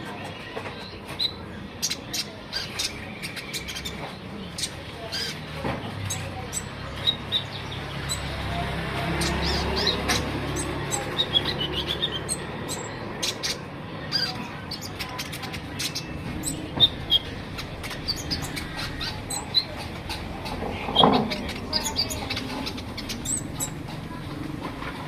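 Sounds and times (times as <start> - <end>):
songbird chirping: 0.0 - 24.9.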